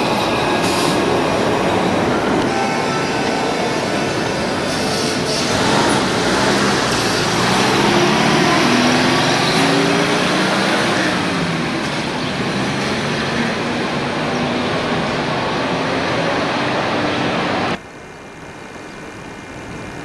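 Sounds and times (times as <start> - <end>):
road noise rushing: 0.0 - 17.8.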